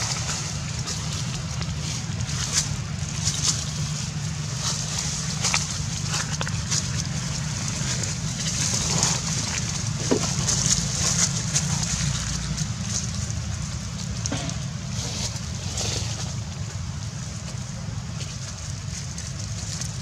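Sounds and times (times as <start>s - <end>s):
dry leaves rustling: 0.0s - 20.0s
low rumble: 0.0s - 20.0s.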